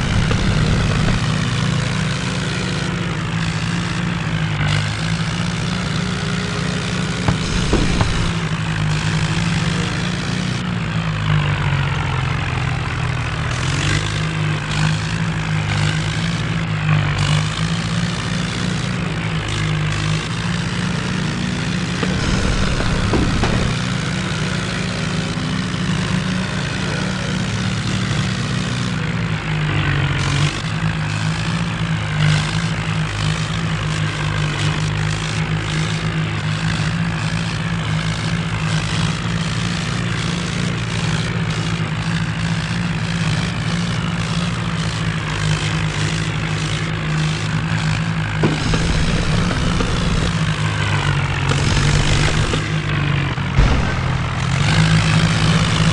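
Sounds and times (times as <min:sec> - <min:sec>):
tractor diesel engine droning: 0:00.0 - 0:55.9.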